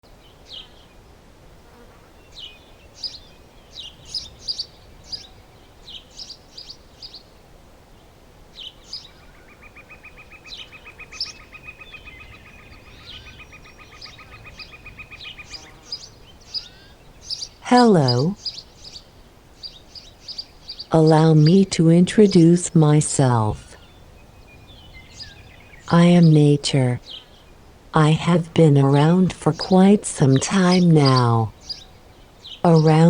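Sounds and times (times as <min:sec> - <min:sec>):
birds chirping: 0:02.2 - 0:07.3, 0:10.0 - 0:33.0.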